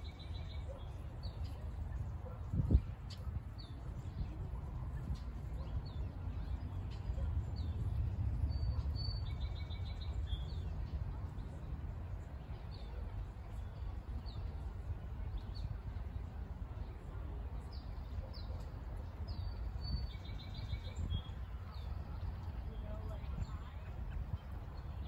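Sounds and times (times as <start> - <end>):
light rain on a pond: 0.0 - 25.0
small birds chirping: 0.0 - 25.0.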